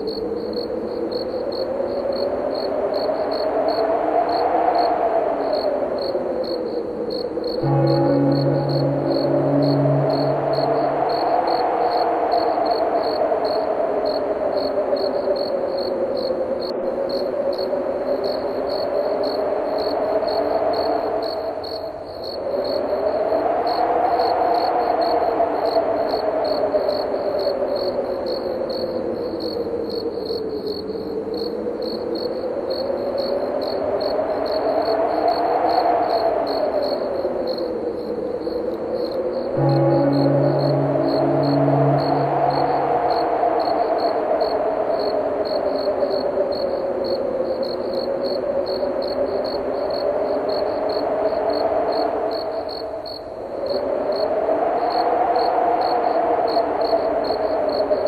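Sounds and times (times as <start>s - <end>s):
crickets chirping: 0.0s - 58.0s
howling wind: 0.0s - 58.0s.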